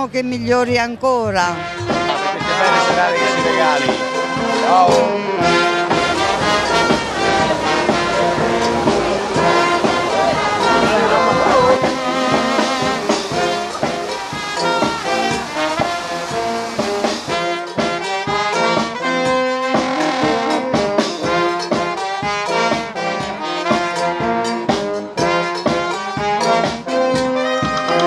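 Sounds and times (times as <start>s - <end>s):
bass drum beat: 0.0s - 28.0s
brass band playing upbeat tune: 0.0s - 28.0s.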